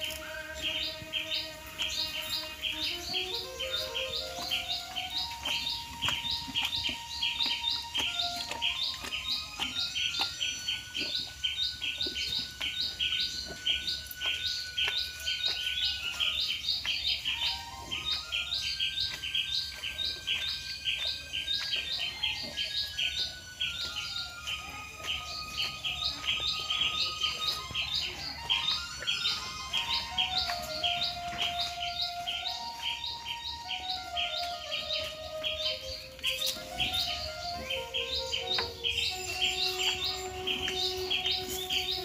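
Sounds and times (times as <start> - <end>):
faint slow melody: 0.0 - 42.0
rapid bird chirping: 0.0 - 42.0.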